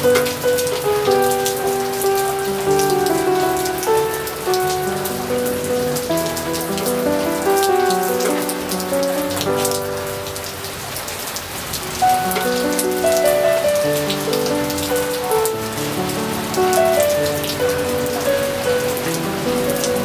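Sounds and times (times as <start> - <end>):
rain drops falling: 0.0 - 20.0
slow piano music: 0.0 - 20.0.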